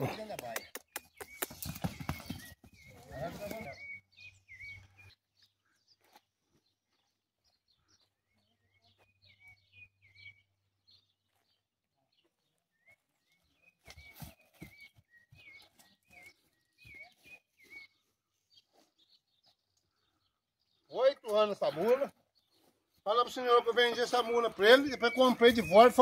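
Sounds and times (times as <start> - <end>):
faint chirping bird calls: 0.0 - 26.0.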